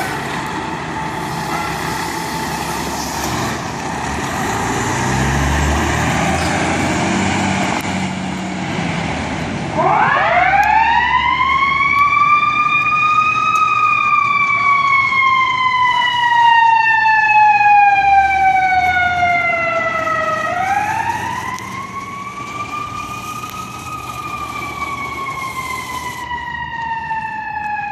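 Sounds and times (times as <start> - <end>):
fire truck siren wailing: 0.0 - 27.9
truck engine rumble: 0.0 - 27.9.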